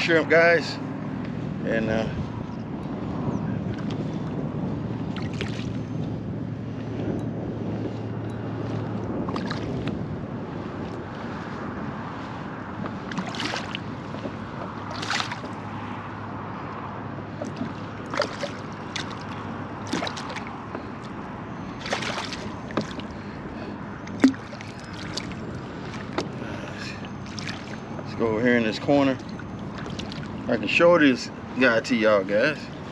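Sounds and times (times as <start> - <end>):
water noise: 0.0 - 32.9
wind: 0.0 - 32.9.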